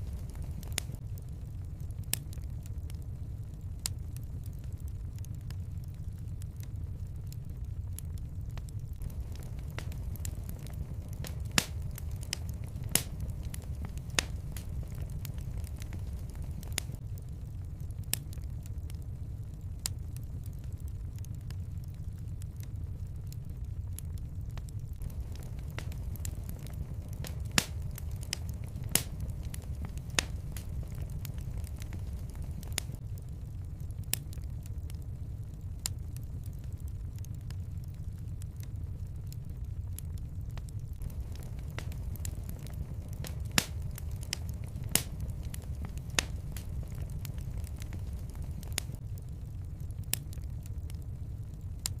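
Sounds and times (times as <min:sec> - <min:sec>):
fireplace fire crackling: 0:00.0 - 0:52.0
low rumble: 0:00.0 - 0:52.0.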